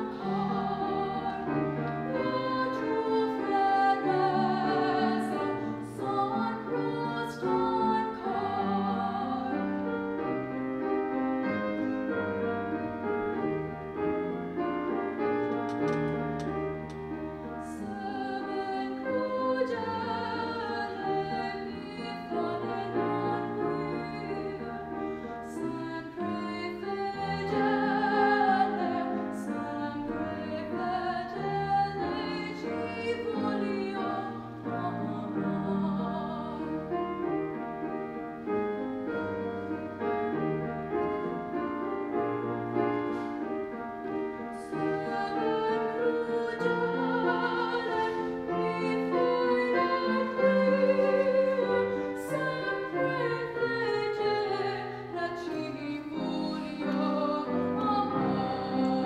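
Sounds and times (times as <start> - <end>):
grand piano accompaniment: 0.0 - 59.0
soprano singing: 0.0 - 59.0.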